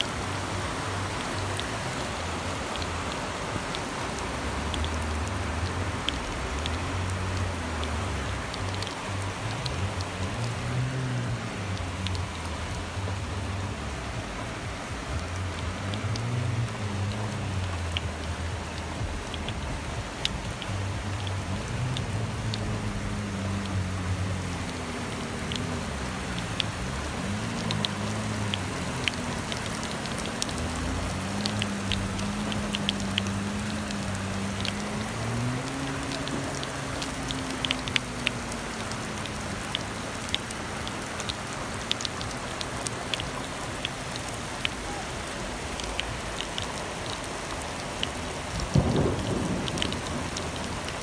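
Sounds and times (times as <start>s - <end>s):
rain pouring: 0.0s - 51.0s
raindrops clicking: 0.0s - 51.0s.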